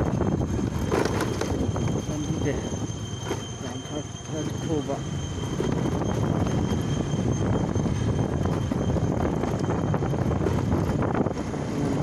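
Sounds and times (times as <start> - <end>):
vehicle rumbling on rough road: 0.0 - 12.0
wind buffeting microphone: 0.0 - 12.0.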